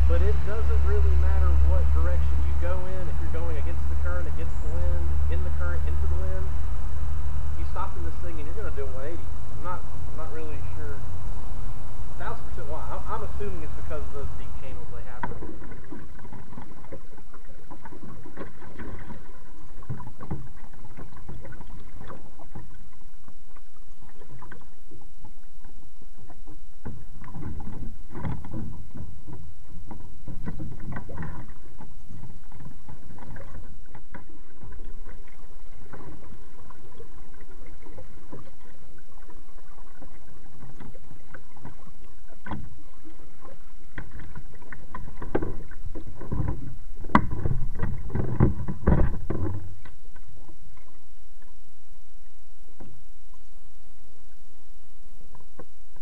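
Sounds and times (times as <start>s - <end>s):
paddle splashing in water: 0.0s - 53.5s
water washing against hull: 0.0s - 56.0s.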